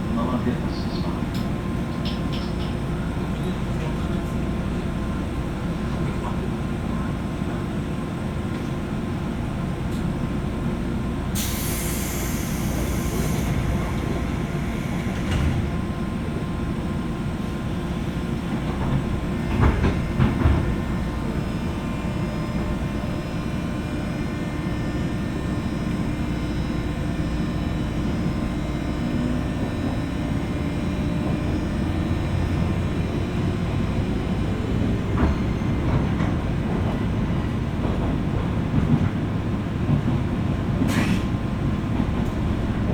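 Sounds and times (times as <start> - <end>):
train wheels and motors rumbling: 0.0 - 42.9.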